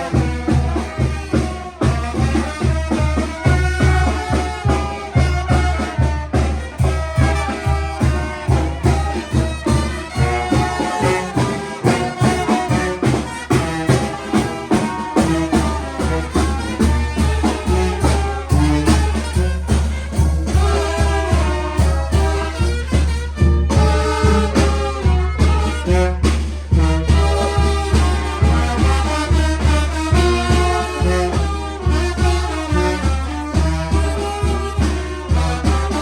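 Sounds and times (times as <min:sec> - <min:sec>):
band music with brass: 0:00.0 - 0:36.0.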